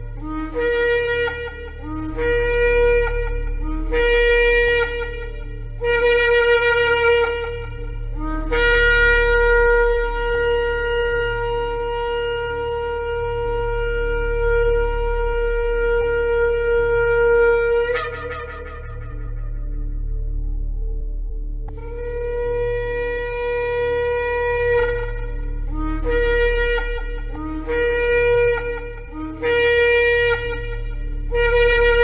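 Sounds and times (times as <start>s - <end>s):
shofar blasts: 0.0s - 20.8s, 21.7s - 32.0s
low steady drone: 0.0s - 32.0s.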